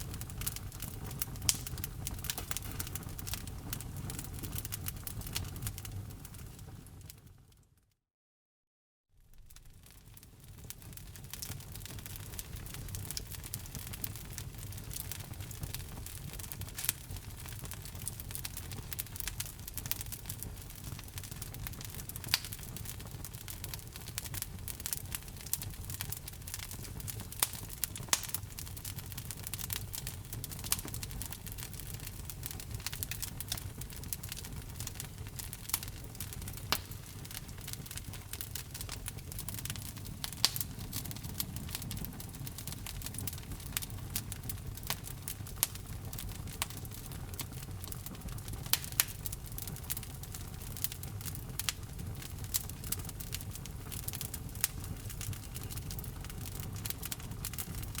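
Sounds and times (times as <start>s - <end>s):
fire flames rumbling: 0.0s - 7.5s, 9.2s - 58.0s
fire crackles and pops: 0.0s - 7.7s, 9.2s - 58.0s.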